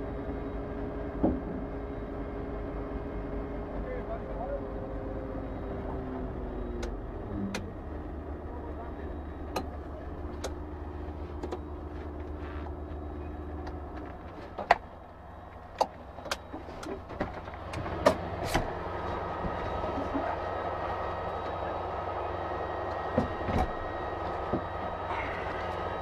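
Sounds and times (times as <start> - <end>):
fire engine motors and pumps: 0.0 - 26.0.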